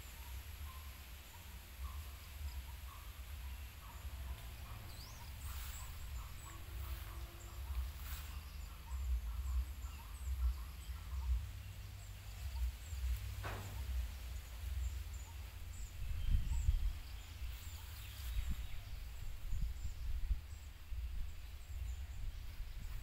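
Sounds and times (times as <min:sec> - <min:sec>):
birds chirping faintly: 0:00.0 - 0:23.0.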